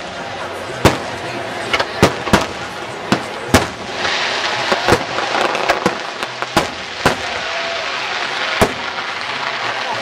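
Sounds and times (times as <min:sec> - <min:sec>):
faint fireworks pops: 0:00.0 - 0:10.0
fireworks bangs: 0:00.0 - 0:10.0.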